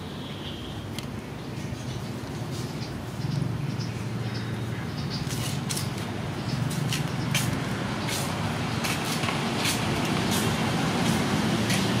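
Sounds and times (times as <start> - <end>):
engine rumbling: 1.7 - 12.0.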